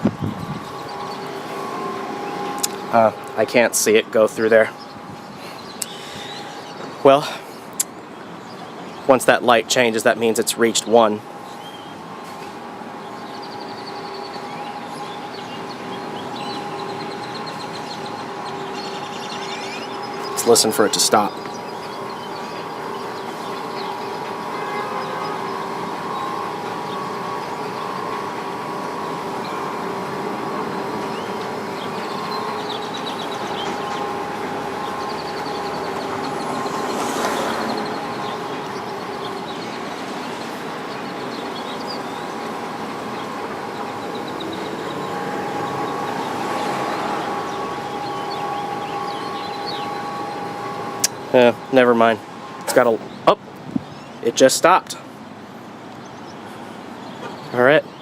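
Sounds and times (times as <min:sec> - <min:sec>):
freight elevator mechanical hum: 0:00.0 - 0:58.0.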